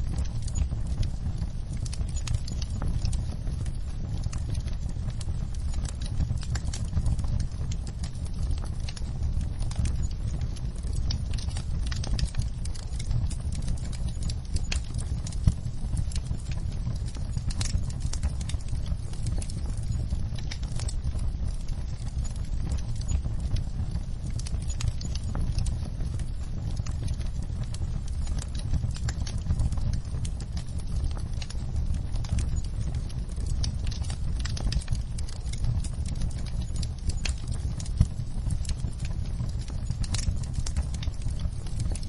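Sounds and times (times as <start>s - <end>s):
fire low rumble: 0.0s - 42.0s
logs crackling and popping: 0.0s - 42.0s.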